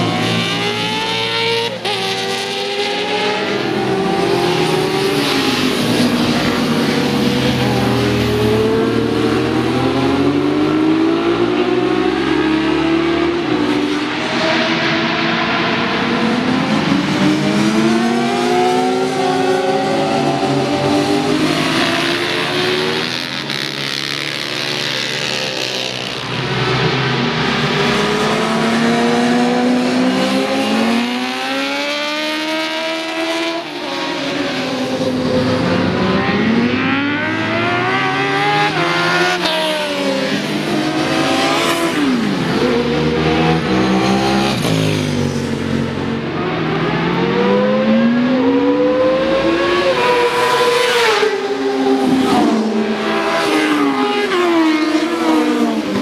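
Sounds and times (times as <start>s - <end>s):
motorcycles passing at full throttle: 0.0s - 56.0s.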